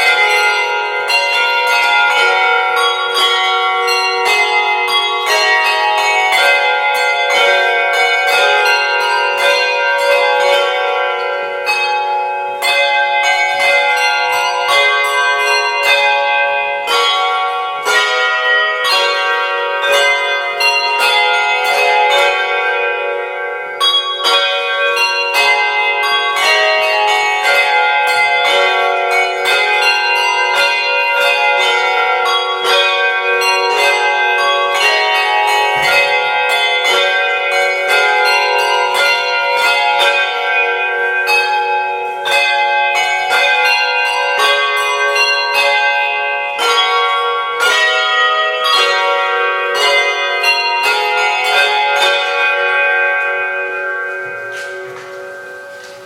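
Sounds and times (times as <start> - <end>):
handbells playing a tune: 0.0 - 56.0.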